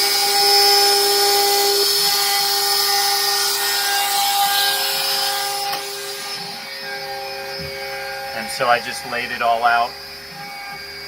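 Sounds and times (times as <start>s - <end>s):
router bit cutting wood: 0.0s - 11.0s
router spindle whining: 0.0s - 11.0s.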